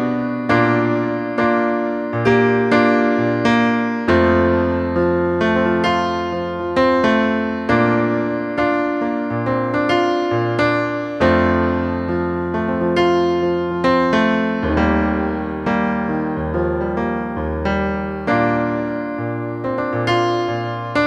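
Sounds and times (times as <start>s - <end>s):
piano chords ringing: 0.0s - 21.0s.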